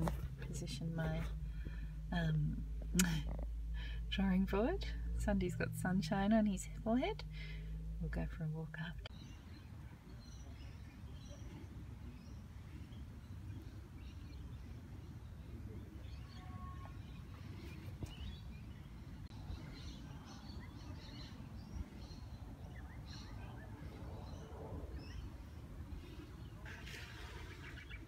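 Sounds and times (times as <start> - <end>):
low outdoor rumble: 0.0 - 28.0
small birds chirping: 0.0 - 28.0.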